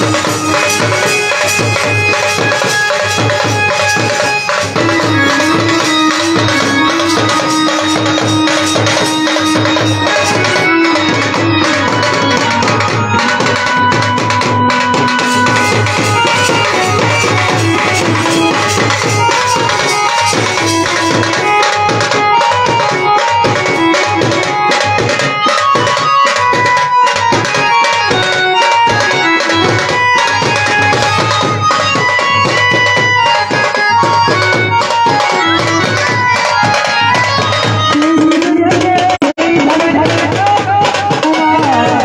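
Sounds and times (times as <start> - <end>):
banjo melody: 0.0 - 40.1
fast side drumming: 0.0 - 42.0.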